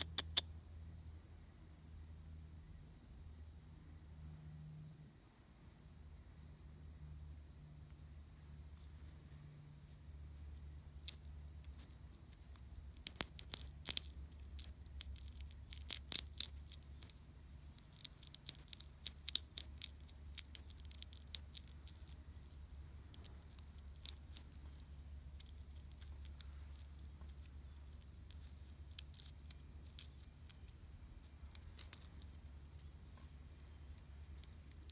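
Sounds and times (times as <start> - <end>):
insects droning: 0.0 - 34.9.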